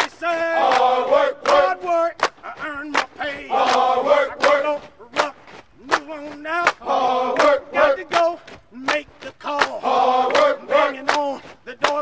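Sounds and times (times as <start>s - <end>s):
group chanting marching cadence: 0.0s - 12.0s.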